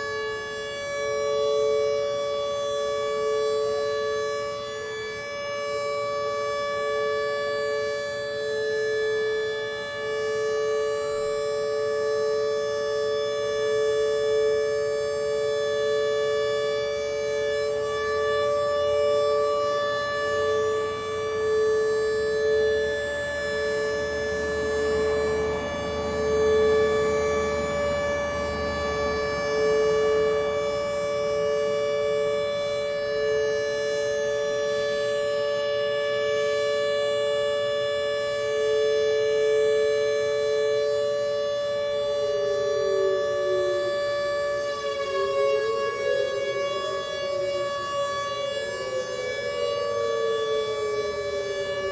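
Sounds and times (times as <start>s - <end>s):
warning siren steady tone: 0.0s - 51.9s.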